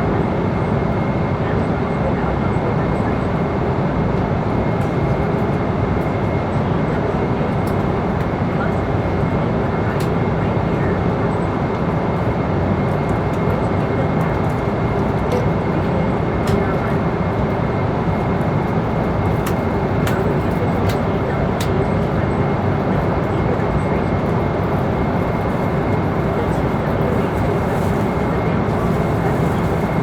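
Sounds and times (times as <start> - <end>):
airliner cabin roar: 0.0 - 30.0.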